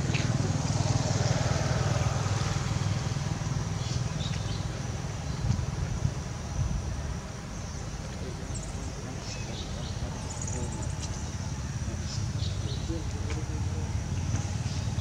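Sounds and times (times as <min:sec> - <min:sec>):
vehicle engine running: 0:00.0 - 0:06.0, 0:08.1 - 0:15.0.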